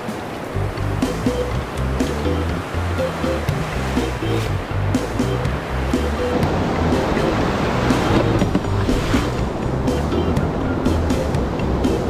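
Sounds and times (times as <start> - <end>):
background music: 0.0 - 12.0
breaking surf: 0.0 - 12.0.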